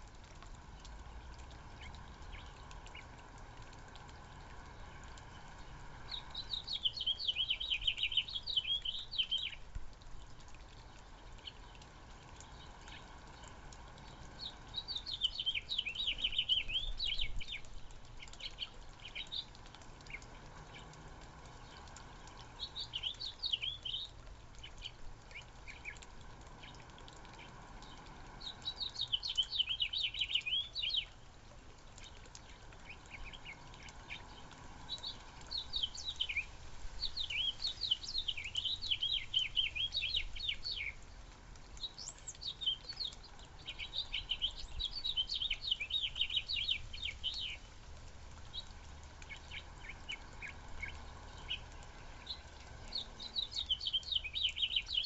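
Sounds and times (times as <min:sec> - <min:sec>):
birds chirping: 0:00.8 - 0:09.7, 0:10.3 - 0:55.0.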